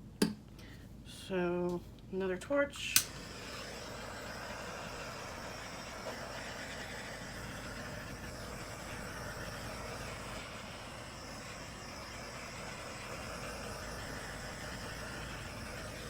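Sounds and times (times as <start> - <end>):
torch hissing: 2.8 - 16.0.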